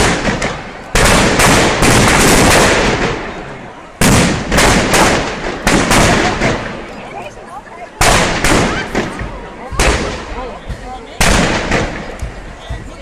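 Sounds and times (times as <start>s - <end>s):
firecrackers banging: 0.0s - 7.2s, 8.0s - 13.0s.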